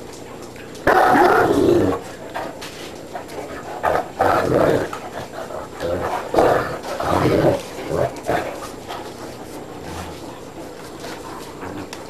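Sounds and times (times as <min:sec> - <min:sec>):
dogs growling: 0:00.8 - 0:12.0.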